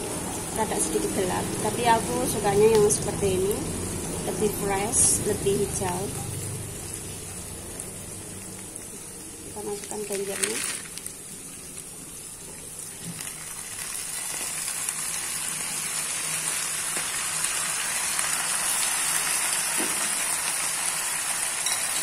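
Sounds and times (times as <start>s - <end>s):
hot oil sizzling in a wok: 0.0s - 22.0s.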